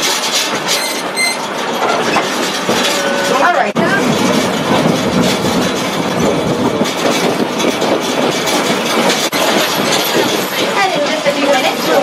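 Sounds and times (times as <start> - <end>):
track clacks: 0.0 - 12.0
train wheels rumbling on track: 0.0 - 12.0.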